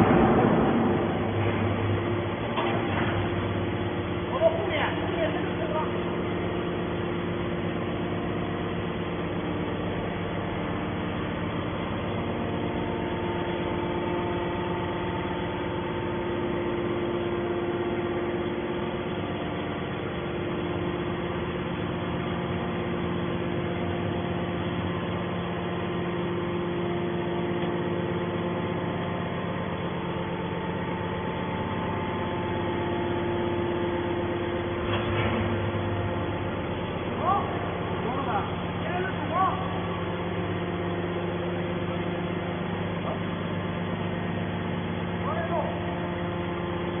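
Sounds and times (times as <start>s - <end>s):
motor and pump humming: 0.0s - 47.0s.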